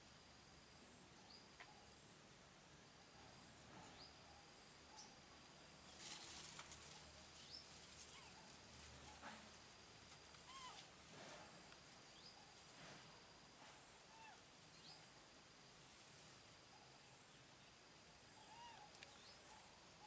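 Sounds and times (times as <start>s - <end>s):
faint chirps: 3.1s - 10.9s, 11.6s - 20.0s.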